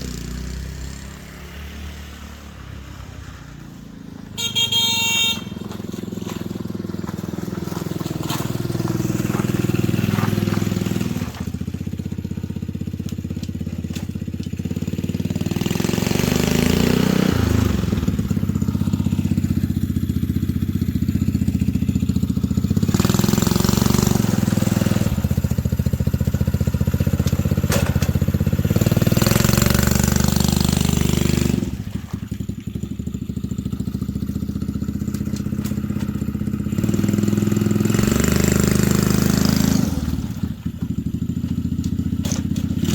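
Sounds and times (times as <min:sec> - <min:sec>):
go-kart engine revving: 0:00.0 - 0:42.9.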